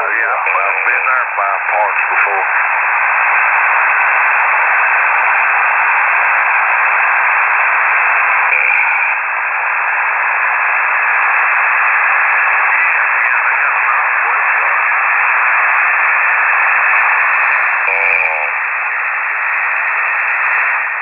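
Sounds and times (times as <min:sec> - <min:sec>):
shortwave radio receiver hiss: 0:00.0 - 0:21.0.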